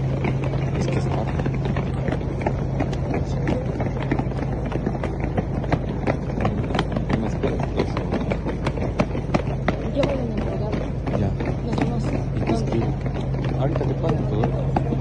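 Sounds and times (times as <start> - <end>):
booted feet running on pavement: 0.0 - 15.0
steady low hum: 0.0 - 15.0
street noise: 0.0 - 15.0.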